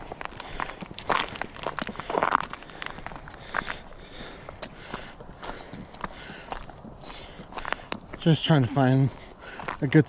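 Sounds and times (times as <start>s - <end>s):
footsteps outdoors: 0.0s - 10.0s.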